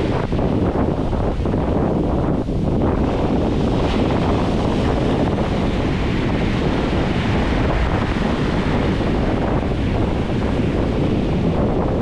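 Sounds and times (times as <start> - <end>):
surf breaking on sand: 0.0 - 12.0
wind buffeting microphone: 0.0 - 12.0.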